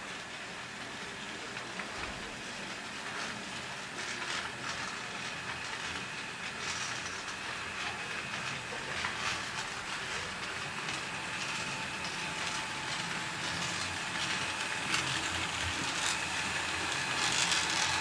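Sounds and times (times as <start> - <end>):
model train motor hum: 0.0 - 18.0.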